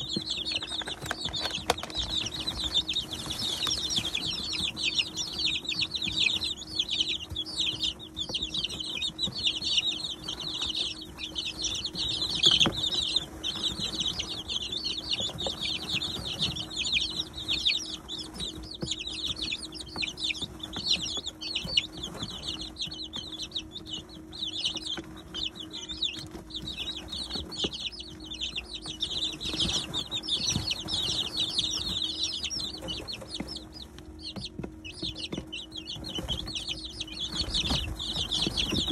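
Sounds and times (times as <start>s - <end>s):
chicks peeping: 0.0s - 38.9s
faint steady hum: 0.0s - 38.9s.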